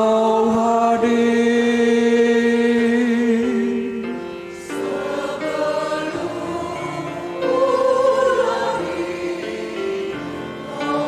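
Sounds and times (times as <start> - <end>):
mixed choir singing: 0.0 - 3.9, 4.5 - 11.0.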